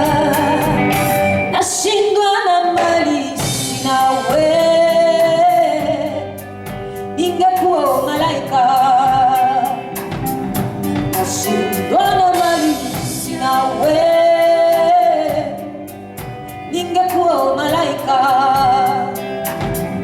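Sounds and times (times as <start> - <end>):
drums and cymbals: 0.0 - 1.8, 2.8 - 20.0
live band playing: 0.0 - 20.0
person singing with vibrato: 0.0 - 20.0.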